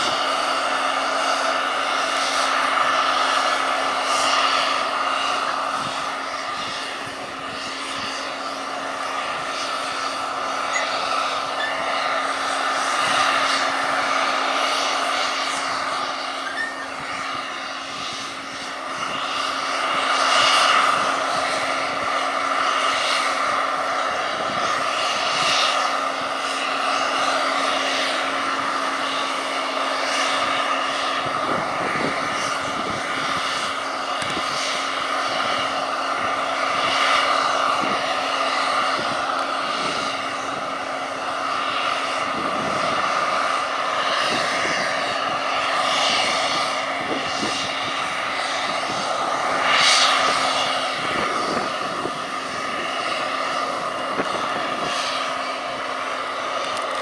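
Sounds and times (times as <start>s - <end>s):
combine harvester drone: 0.0s - 57.0s
tractor running: 0.0s - 57.0s.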